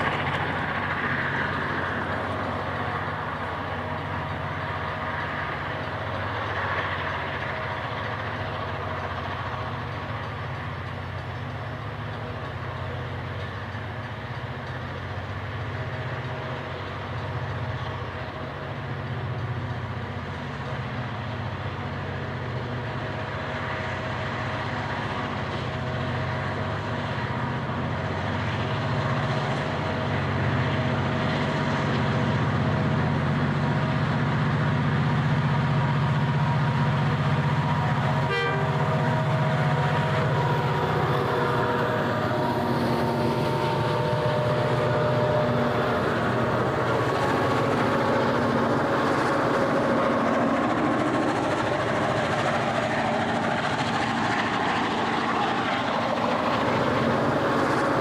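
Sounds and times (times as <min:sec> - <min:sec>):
diesel locomotives working hard: 0:00.0 - 0:58.0.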